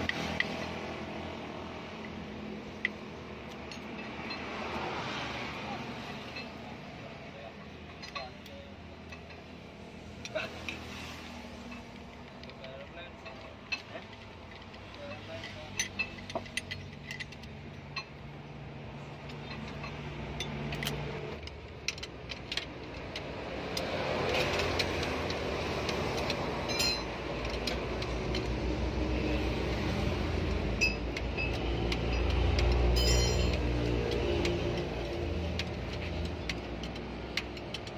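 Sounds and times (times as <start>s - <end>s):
vehicle engine rumble: 0.0s - 37.9s
hand tools clinking on metal: 1.8s - 9.6s, 10.2s - 37.9s.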